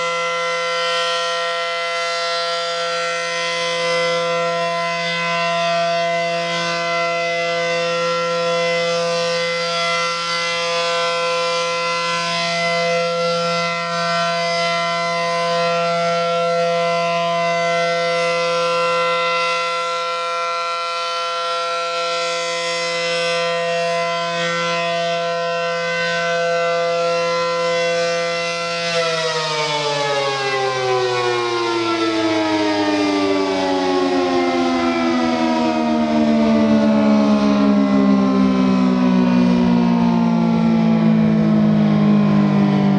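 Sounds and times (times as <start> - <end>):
warning siren steady tone: 0.0 - 42.9.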